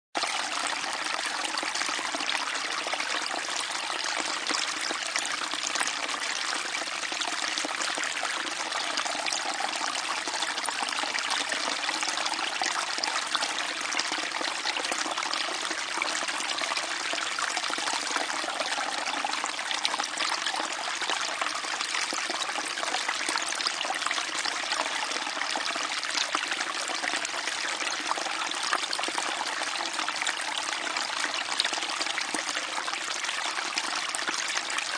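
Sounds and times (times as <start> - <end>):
stream trickling and gurgling: 0.2 - 34.9.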